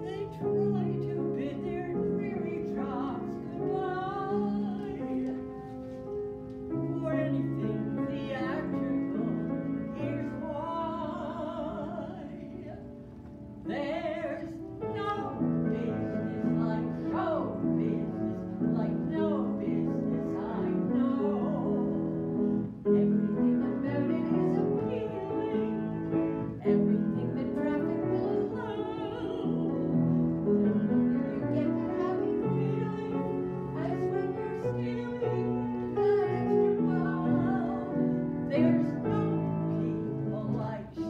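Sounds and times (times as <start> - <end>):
woman singing operatically: 0.0 - 5.4, 7.0 - 12.8, 13.7 - 22.0, 23.0 - 25.9, 26.6 - 30.0, 30.9 - 41.0
piano accompaniment: 0.0 - 41.0.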